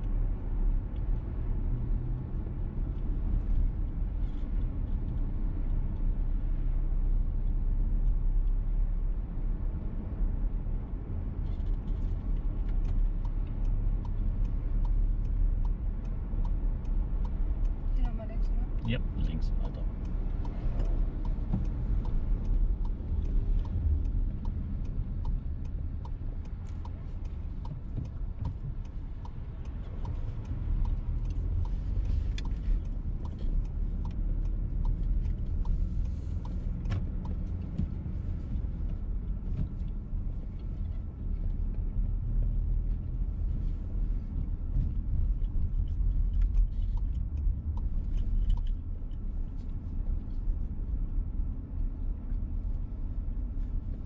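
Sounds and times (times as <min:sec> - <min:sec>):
car road and engine rumble: 0:00.0 - 0:54.0
turn signal ticking: 0:00.0 - 0:54.0.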